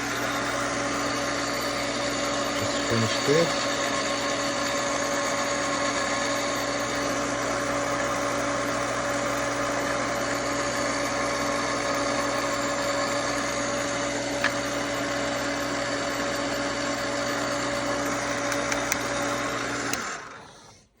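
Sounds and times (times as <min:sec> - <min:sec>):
small electric motor humming: 0:00.0 - 0:20.9.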